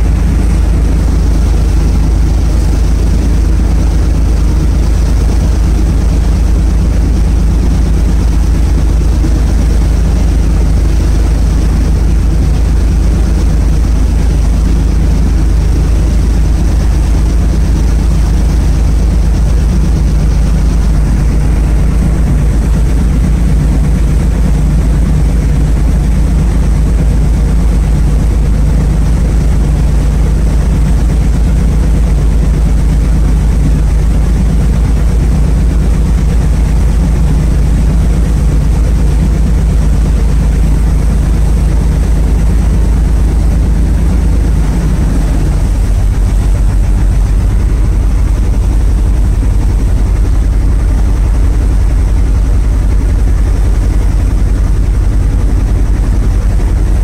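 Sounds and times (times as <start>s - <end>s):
ferry engine droning: 0.0s - 57.0s
rushing water: 0.0s - 57.0s
wind: 0.0s - 57.0s.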